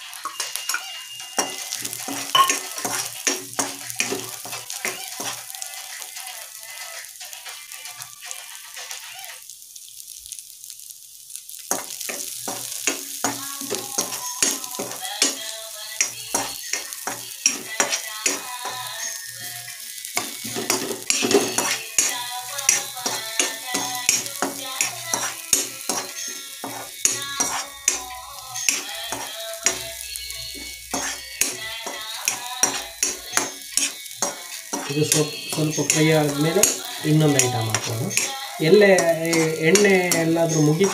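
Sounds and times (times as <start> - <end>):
metal spoon scraping pan: 0.0 - 9.3, 11.7 - 40.9
oil sizzling: 0.0 - 40.9.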